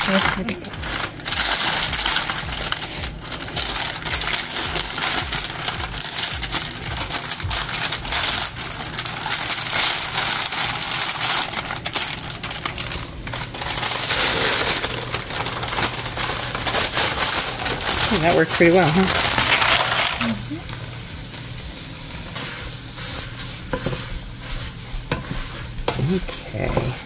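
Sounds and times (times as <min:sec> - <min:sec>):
peppers scraping on baking tray: 0:00.0 - 0:20.4, 0:22.4 - 0:27.0.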